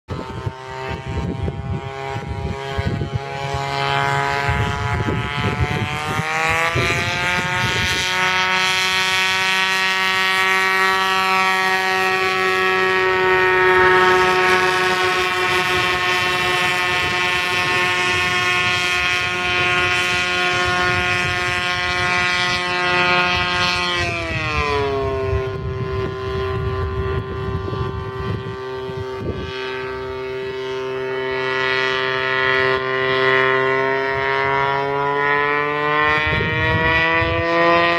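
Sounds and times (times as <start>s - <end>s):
engine spinning a propeller: 0.0s - 37.9s.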